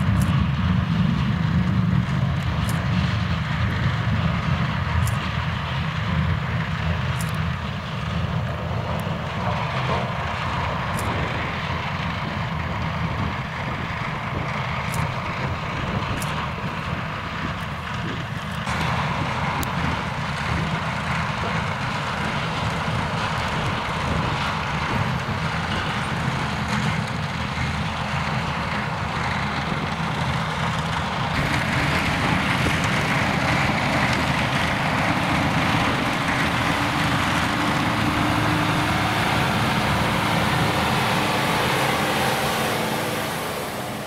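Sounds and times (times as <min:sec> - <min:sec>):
beet harvester running: 0:00.0 - 0:44.0
tractor engine: 0:00.0 - 0:44.0.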